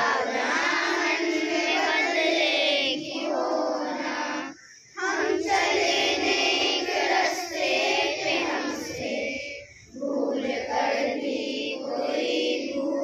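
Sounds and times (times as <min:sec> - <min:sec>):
children singing in unison: 0:00.0 - 0:13.0.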